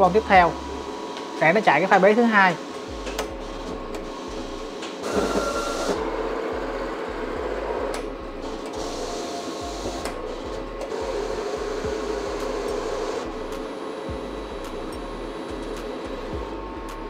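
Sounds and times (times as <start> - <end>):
cutting plotter motors whirring: 0.0 - 17.0
loud motor whine: 0.0 - 17.0.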